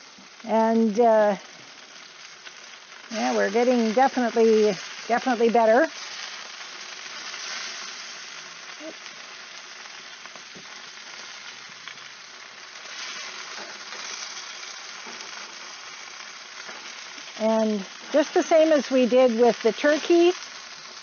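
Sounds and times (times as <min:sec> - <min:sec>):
meat sizzling on a grill: 0:00.0 - 0:21.0.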